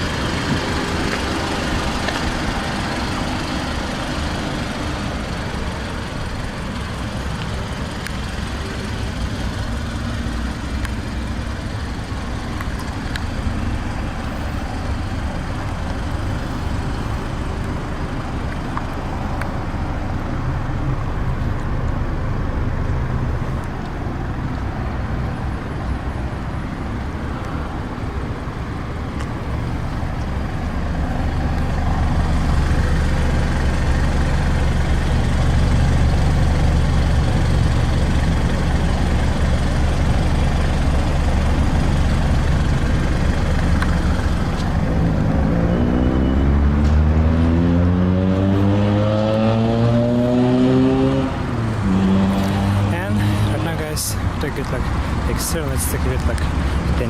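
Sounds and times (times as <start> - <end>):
car engine idling: 0.0 - 45.6, 51.2 - 57.0.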